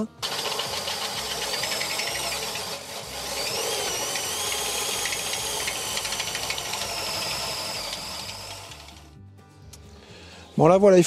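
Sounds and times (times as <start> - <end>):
electric drill boring into steel: 0.2 - 9.1.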